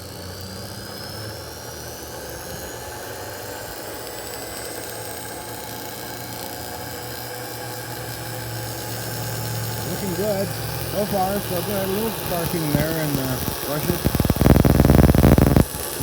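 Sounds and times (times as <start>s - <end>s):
electric motor humming and whining: 0.0s - 16.0s.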